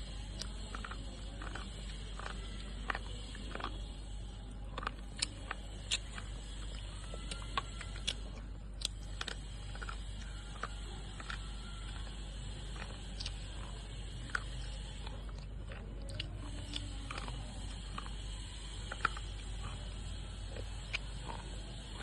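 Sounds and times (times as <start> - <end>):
slate pencils crunching when chewed: 0.0 - 22.0.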